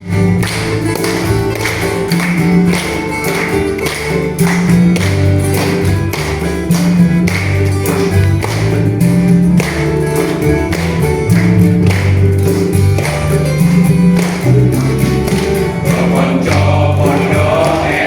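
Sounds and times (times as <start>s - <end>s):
instrumental church band music: 0.0s - 18.0s.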